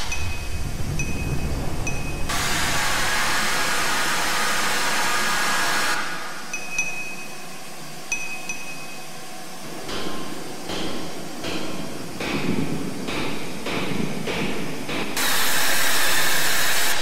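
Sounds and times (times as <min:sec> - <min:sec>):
loud electronic hiss: 0:00.0 - 0:17.0.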